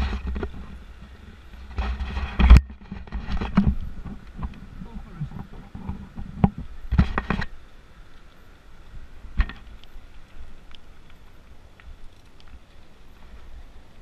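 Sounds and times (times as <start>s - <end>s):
bike tyres rumbling on gravel: 0.0s - 14.0s.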